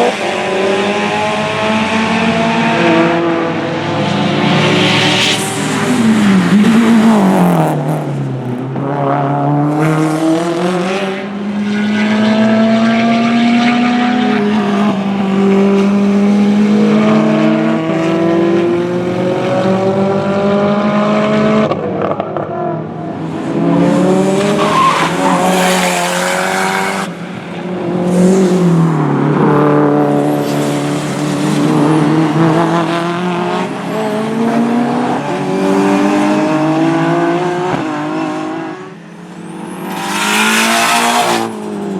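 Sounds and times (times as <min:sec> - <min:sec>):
race car engines revving through gears: 0:00.0 - 0:41.9.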